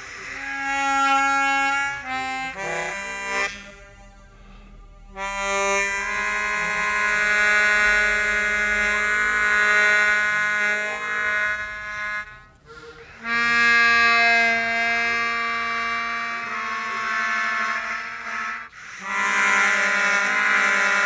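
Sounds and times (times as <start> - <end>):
buzzy harmonica notes: 0.0 - 21.0.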